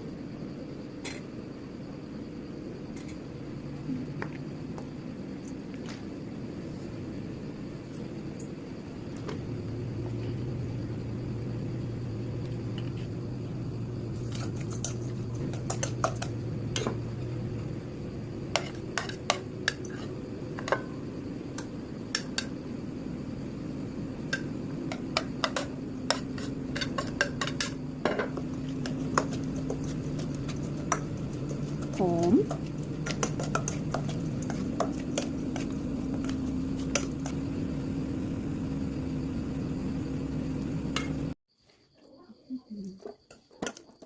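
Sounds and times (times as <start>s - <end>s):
steady low hum: 0.0s - 41.4s.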